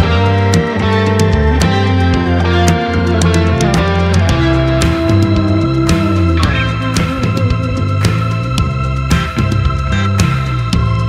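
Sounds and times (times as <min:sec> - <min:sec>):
steady drum beat: 0:00.0 - 0:11.0
sustained instrument notes: 0:00.0 - 0:11.0.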